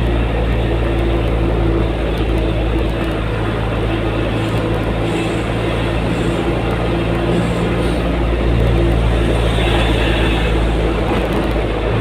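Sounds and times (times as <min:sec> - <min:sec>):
car engine and tyre hum: 0:00.0 - 0:12.0.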